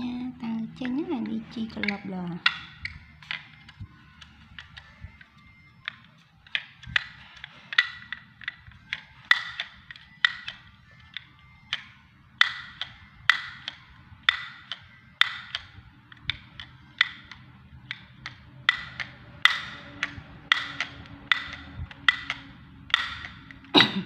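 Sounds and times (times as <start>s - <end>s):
toy chattering teeth clacking: 0.6s - 23.8s.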